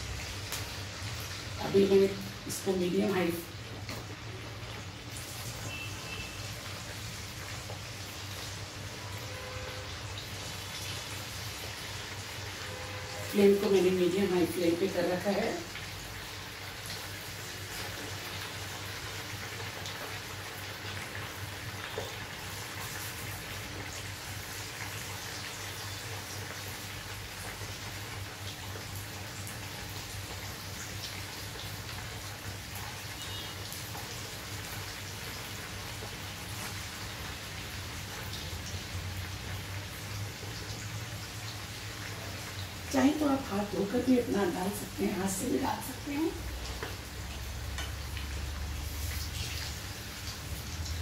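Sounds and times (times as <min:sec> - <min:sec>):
chicken deep-frying in oil: 0:00.0 - 0:51.0.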